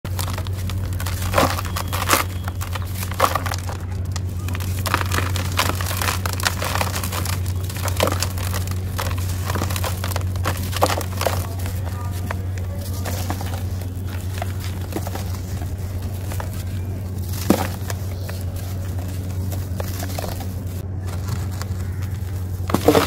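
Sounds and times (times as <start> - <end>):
gritty crunching by hand: 0.0 - 23.0
steady low hum: 0.0 - 23.0
sharp cracks: 0.1 - 20.8.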